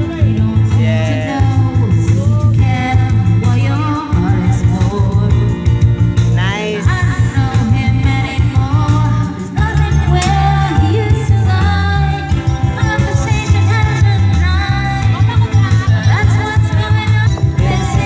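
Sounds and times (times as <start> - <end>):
pulsing bass line: 0.0 - 18.0
song with singing voice: 0.0 - 18.0.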